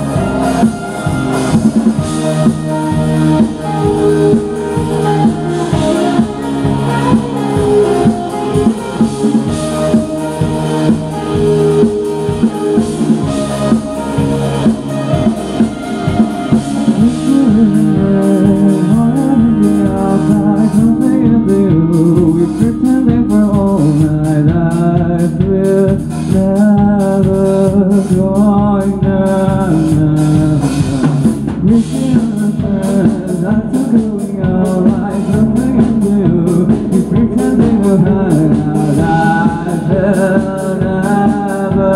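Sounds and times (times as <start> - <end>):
live rock band playing: 0.0 - 41.9
person singing: 0.0 - 41.9.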